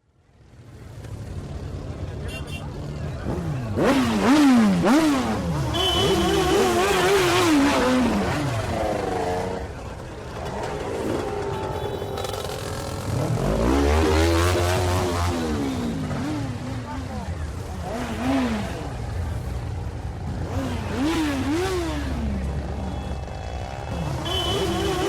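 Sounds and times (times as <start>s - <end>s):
motorcycle engine accelerating: 3.1s - 25.0s.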